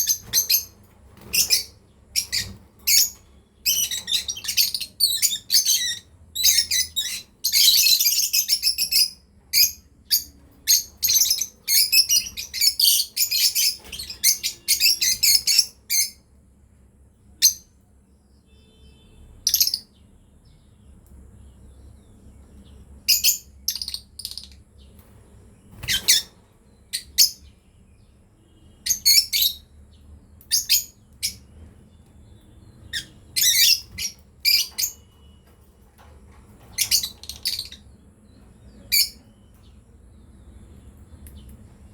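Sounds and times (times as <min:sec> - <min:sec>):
lovebirds chirping: 0:00.0 - 0:41.9.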